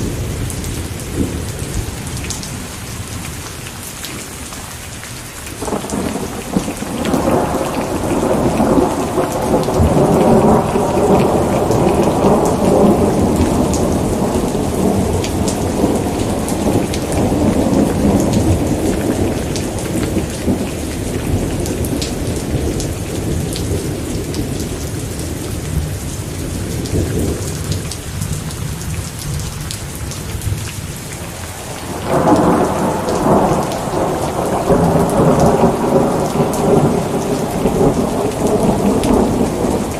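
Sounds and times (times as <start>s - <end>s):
steady rain falling: 0.0s - 39.9s
thunder rolling: 5.6s - 29.5s, 31.8s - 39.9s.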